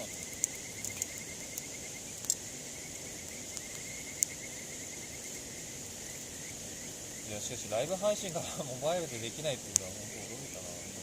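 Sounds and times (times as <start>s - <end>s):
campfire pops: 0.0s - 11.0s
cricket trill: 0.0s - 11.0s
insect drone: 0.0s - 11.0s.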